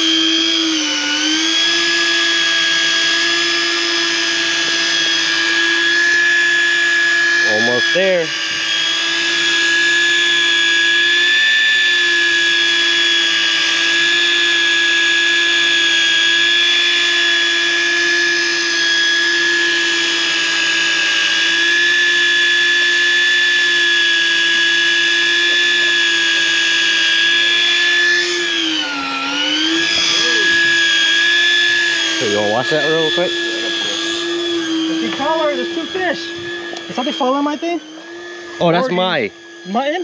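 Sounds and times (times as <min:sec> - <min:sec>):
electric fishing reel motor whining: 0:00.0 - 0:40.0.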